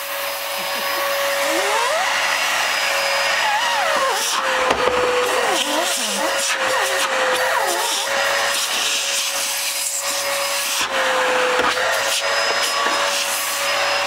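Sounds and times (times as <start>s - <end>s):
vacuum cleaner whine: 0.0s - 14.0s.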